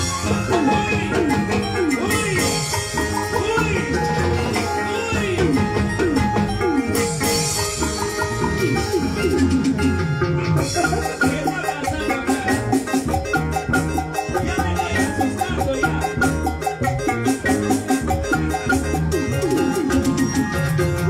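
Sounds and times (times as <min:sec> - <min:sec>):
bass line: 0:00.0 - 0:21.0
higher melodic figure: 0:00.0 - 0:21.0
steady drum beat: 0:00.0 - 0:21.0.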